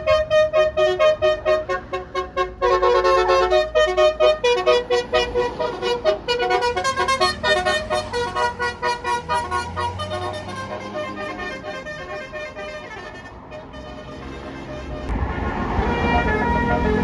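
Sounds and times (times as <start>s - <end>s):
bus engine running: 0.0s - 17.0s
multi-note bus horn melody: 0.0s - 17.0s.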